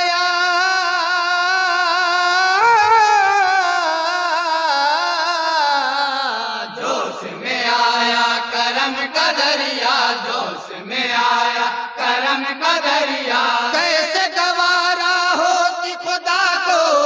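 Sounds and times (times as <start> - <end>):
man singing unaccompanied: 0.0 - 6.8, 7.6 - 17.0.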